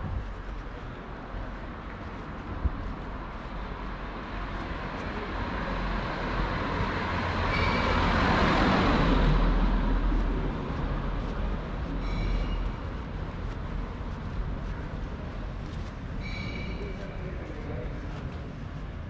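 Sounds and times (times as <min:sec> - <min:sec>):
traffic noise: 0:00.0 - 0:19.0.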